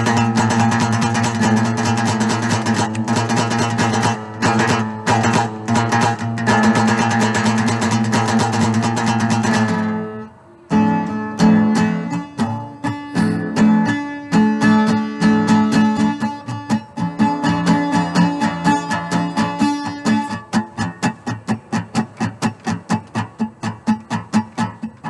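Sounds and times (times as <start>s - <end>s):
resonator guitar strumming: 0.0s - 25.0s.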